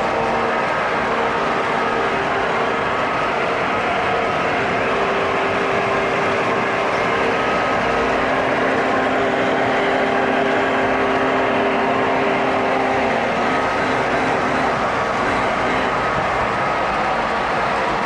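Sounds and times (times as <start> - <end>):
model train running on track: 0.0 - 18.0.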